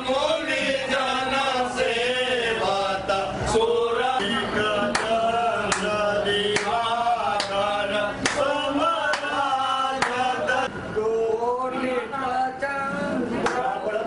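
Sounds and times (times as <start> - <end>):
men chanting a hymn in unison: 0.0 - 11.9.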